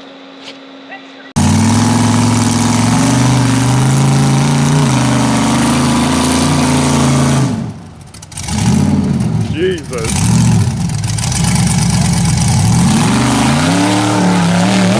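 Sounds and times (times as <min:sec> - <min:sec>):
engine at high revs: 0:01.4 - 0:14.9.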